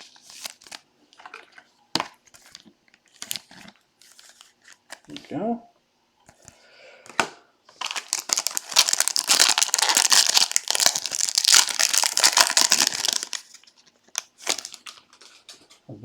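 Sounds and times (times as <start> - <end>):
plastic wrapper torn and crinkled: 0.0 - 5.2, 7.8 - 15.6.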